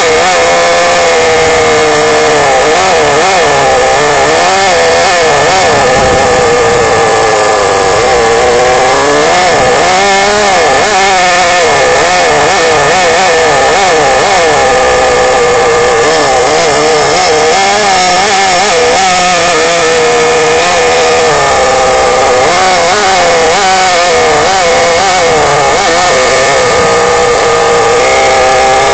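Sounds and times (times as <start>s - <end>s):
small model engine revving: 0.0s - 28.9s.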